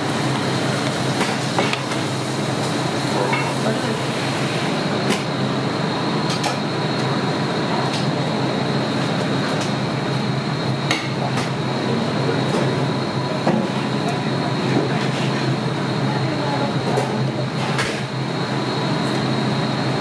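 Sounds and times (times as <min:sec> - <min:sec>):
equipment hum: 0:00.0 - 0:20.0.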